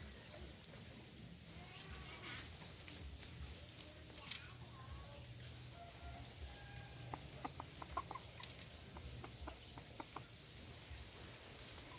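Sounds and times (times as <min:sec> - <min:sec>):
chickens clucking faintly: 0:00.0 - 0:11.9.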